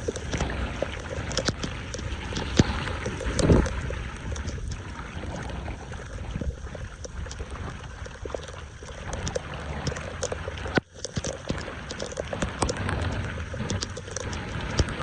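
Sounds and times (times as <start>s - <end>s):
water running and gurgling: 0.0s - 15.0s.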